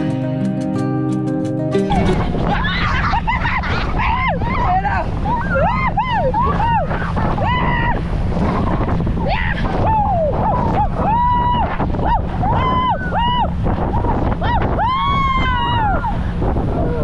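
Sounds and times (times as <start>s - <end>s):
boat rumbling on water: 1.8s - 17.0s
people screaming: 1.8s - 17.0s
wind buffeting microphone: 1.8s - 17.0s.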